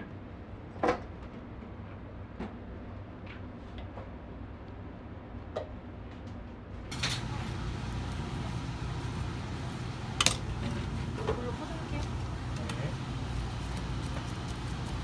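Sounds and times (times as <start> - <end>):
kitchen background hum: 0.7 - 15.0.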